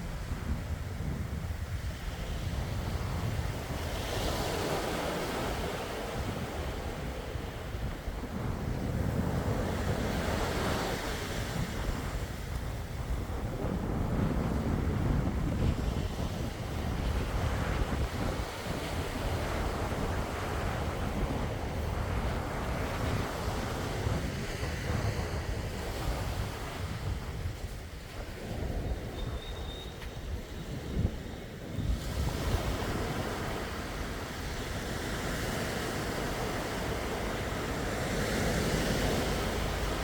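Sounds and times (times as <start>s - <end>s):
wind rumbling on microphone: 0.0s - 40.0s
sea waves breaking: 1.7s - 40.0s.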